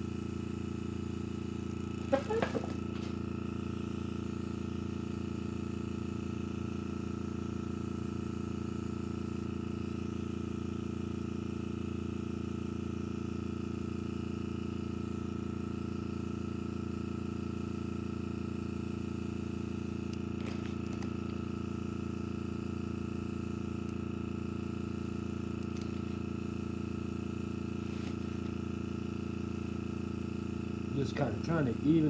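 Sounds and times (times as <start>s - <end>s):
air compressor humming: 0.0s - 32.0s
airbrush spraying paint: 0.0s - 32.0s.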